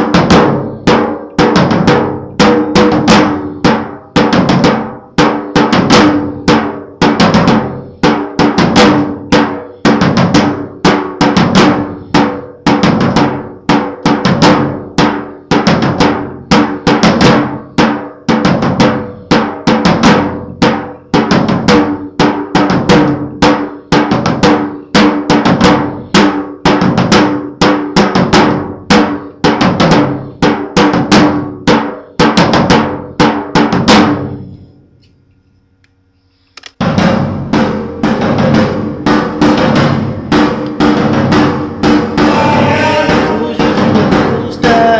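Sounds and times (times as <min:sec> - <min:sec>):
drum-driven music: 0:00.0 - 0:34.5, 0:36.7 - 0:44.9.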